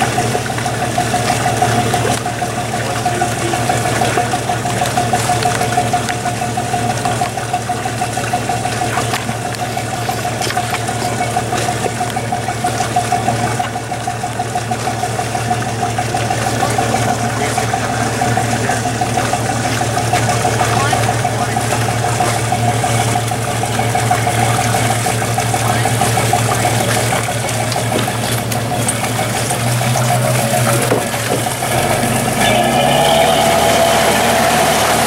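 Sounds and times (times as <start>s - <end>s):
ship engine idling: 0.0s - 35.0s.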